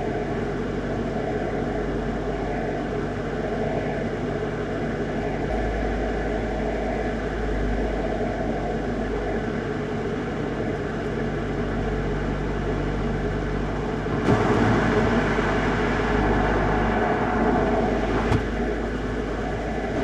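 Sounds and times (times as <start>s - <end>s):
car engine running: 0.0s - 20.0s
road and tyre noise: 0.0s - 20.0s.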